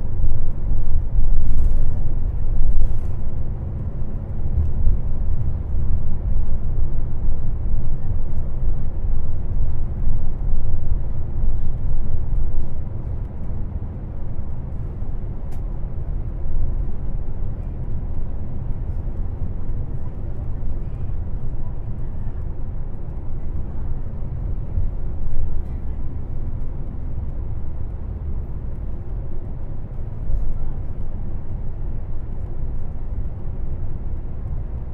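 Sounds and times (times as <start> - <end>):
bus engine and road rumble: 0.0 - 34.9.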